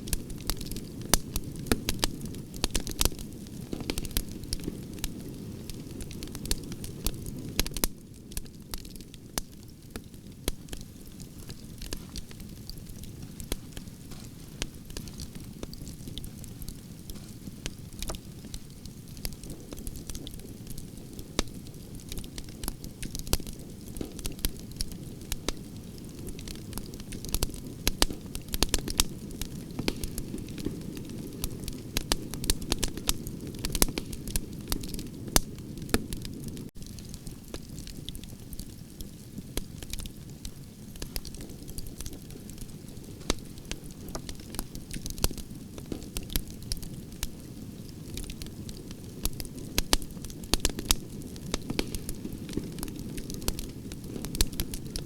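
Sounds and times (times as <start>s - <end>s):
campfire crackling and popping: 0.0s - 55.0s
low rumble of flames: 0.0s - 55.0s.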